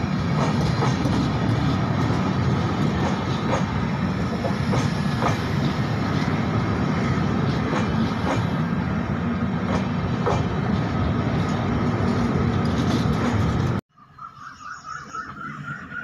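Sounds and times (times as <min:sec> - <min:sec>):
train wheels rumbling on rail: 0:00.0 - 0:13.8.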